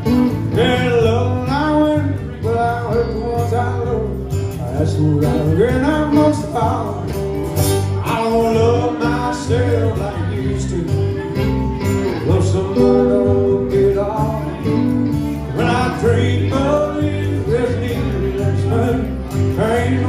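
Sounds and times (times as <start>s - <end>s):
electric bass: 0.0s - 20.0s
electric guitar: 0.0s - 20.0s
strummed acoustic guitar: 0.0s - 20.0s.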